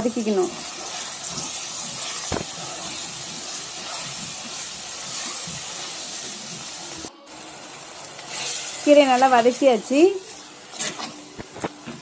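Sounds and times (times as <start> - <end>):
greens sizzling in hot oil: 0.0 - 12.0.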